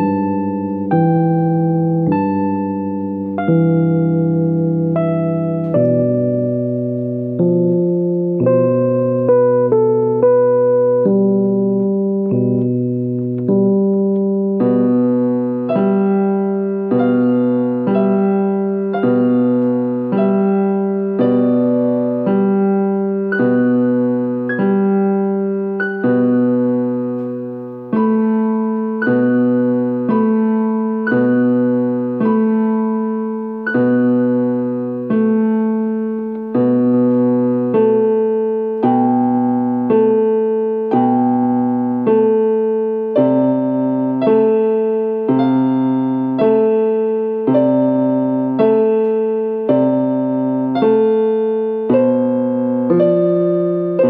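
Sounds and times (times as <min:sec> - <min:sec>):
electronic keyboard piano music: 0:00.0 - 0:54.0.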